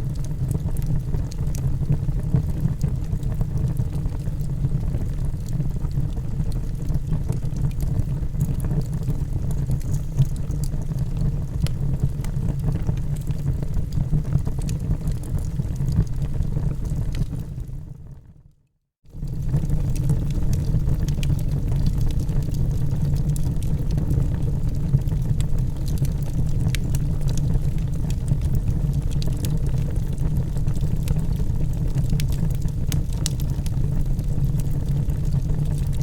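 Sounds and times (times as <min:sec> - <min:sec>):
log fire crackling: 0:00.1 - 0:17.7, 0:19.2 - 0:36.0.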